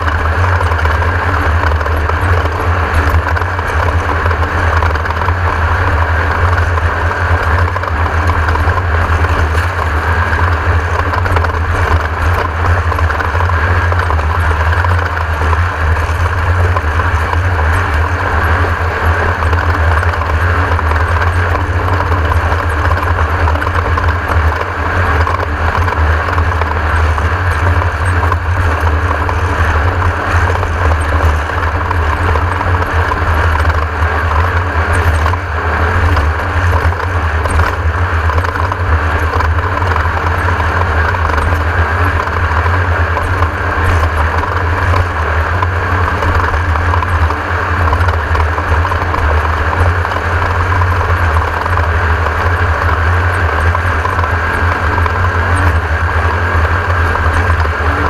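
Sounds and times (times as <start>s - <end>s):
buggy engine under load: 0.0s - 58.0s.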